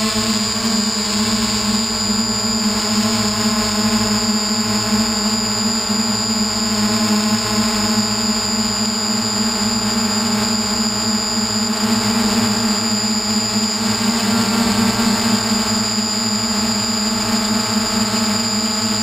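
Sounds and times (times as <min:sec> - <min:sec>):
drone motors humming and whining: 0:00.0 - 0:19.0.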